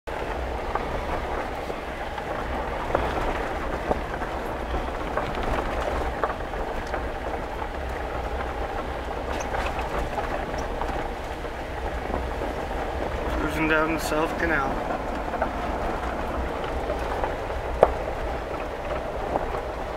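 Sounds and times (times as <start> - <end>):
tyres rumbling on gravel: 0.1 - 19.9
wind noise: 0.1 - 19.9
sharp ticks and knocks: 2.2 - 19.9.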